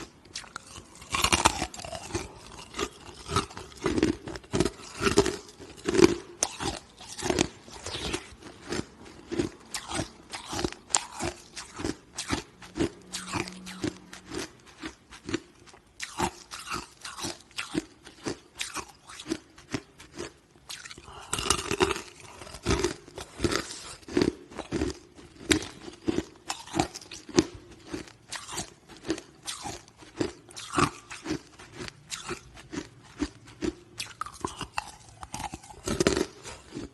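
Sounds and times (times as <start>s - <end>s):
chewing crunchy ice: 0.0s - 36.9s.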